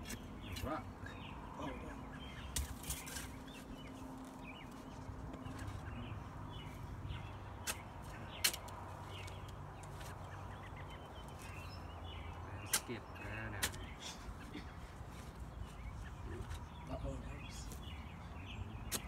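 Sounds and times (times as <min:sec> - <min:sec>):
birds and chickens calling faintly: 0:00.0 - 0:19.0.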